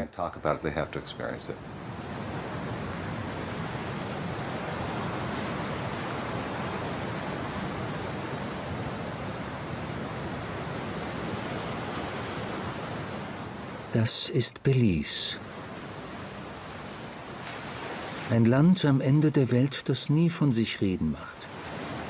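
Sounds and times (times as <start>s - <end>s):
surf washing: 0.8s - 22.0s
wind through palm fronds: 1.0s - 22.0s.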